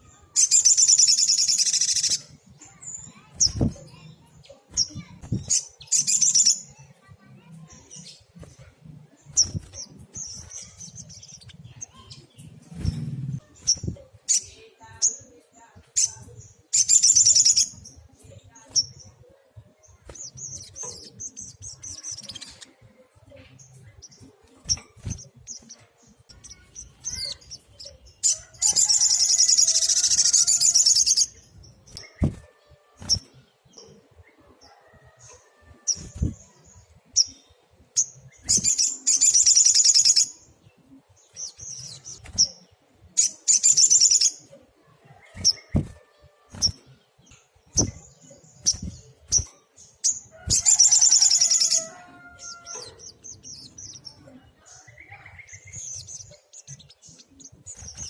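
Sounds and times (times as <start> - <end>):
bird high chirps: 0.0 - 19.2, 19.9 - 22.8, 23.6 - 34.0, 34.7 - 40.5, 41.2 - 58.0.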